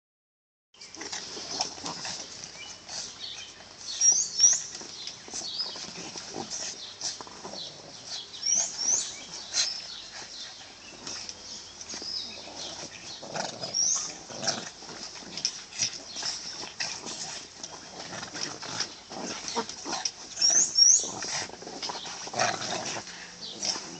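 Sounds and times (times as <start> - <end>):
dogs scuffling: 0.9 - 23.9.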